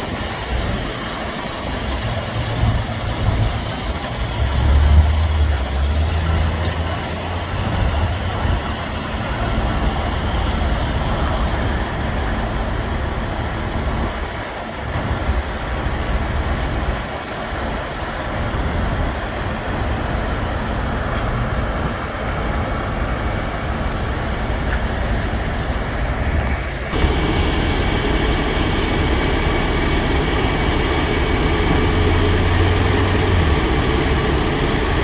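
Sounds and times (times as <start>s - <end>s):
diesel engine rumbling: 0.0s - 35.0s.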